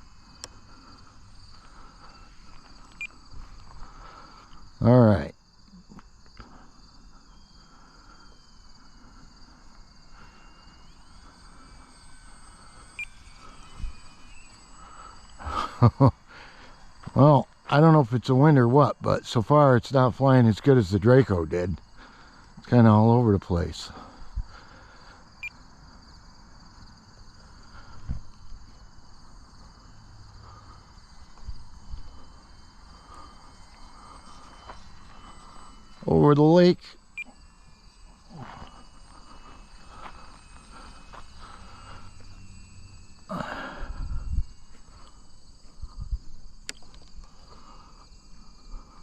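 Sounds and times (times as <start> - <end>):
electric motor whining: 0.0 - 49.0
insects chirring: 0.0 - 49.0.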